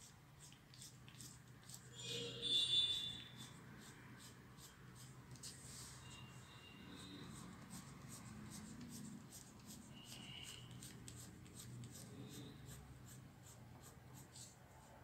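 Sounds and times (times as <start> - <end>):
oil pastel scratching paper: 0.0 - 15.0.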